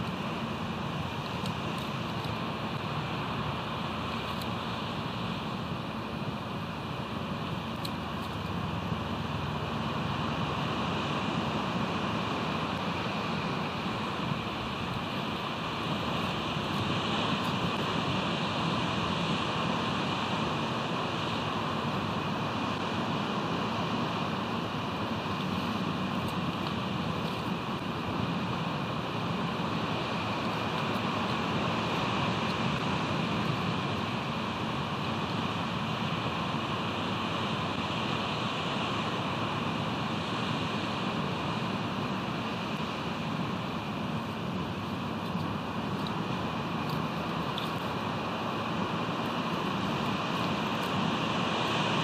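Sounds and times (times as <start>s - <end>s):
ocean surf: 0.0s - 52.0s
wind: 0.0s - 52.0s.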